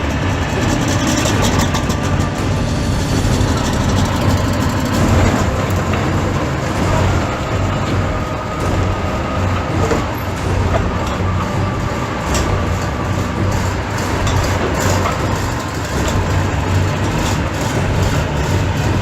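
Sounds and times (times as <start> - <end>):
tank engine humming: 0.0 - 19.0.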